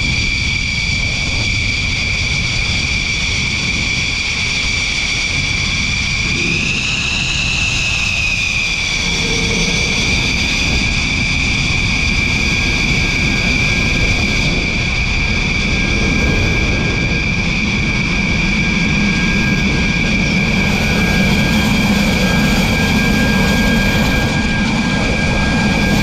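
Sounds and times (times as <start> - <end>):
low rumble: 0.0 - 23.0
jet engines whining: 0.0 - 26.0.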